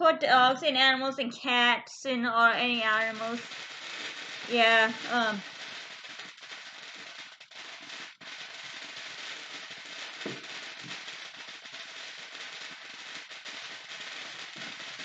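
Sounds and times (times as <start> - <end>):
distant fireworks popping and crackling: 0.0 - 15.0
steady hiss: 1.9 - 15.0.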